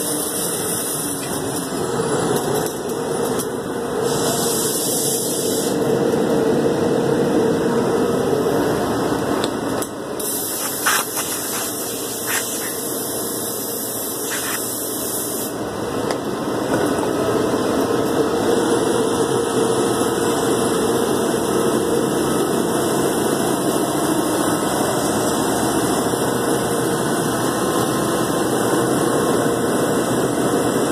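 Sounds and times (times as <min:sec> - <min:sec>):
router machine drone with hiss: 0:00.0 - 0:06.6, 0:10.1 - 0:15.9, 0:18.2 - 0:30.9.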